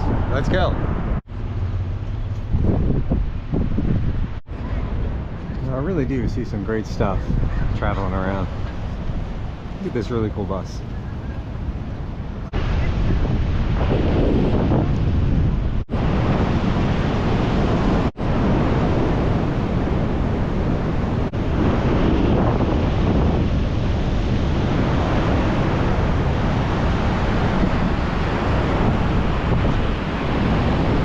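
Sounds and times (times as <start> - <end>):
ocean surf on a beach: 0.0 - 31.0
wind buffeting microphone: 0.0 - 31.0.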